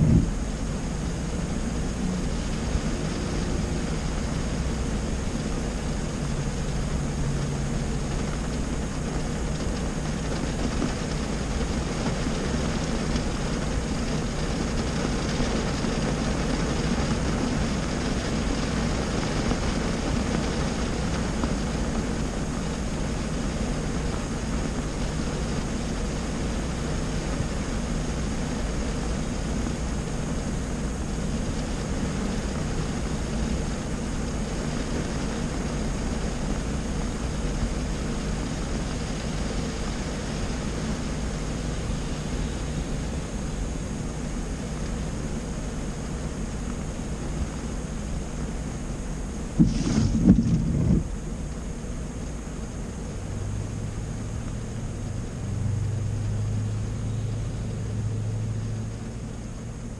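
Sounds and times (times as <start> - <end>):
engine idle hum: 0.0 - 59.9
rain on a car: 0.0 - 59.9.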